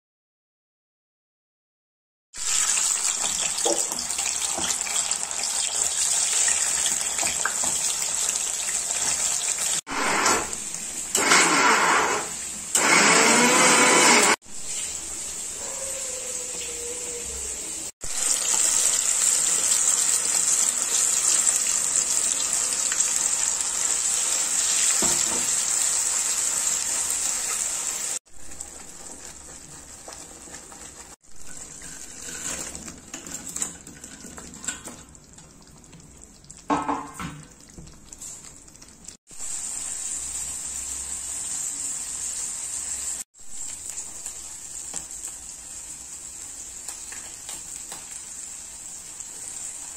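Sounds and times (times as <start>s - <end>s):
paste sizzling in hot oil: 2.4s - 16.9s, 18.0s - 49.9s.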